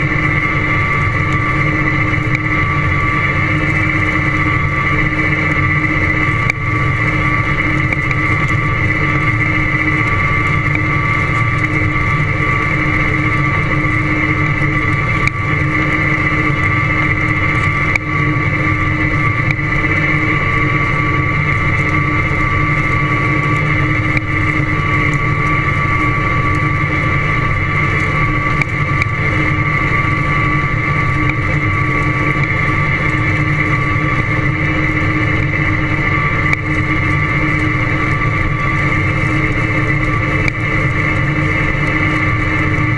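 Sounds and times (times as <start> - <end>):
high whine: 0.0 - 42.9.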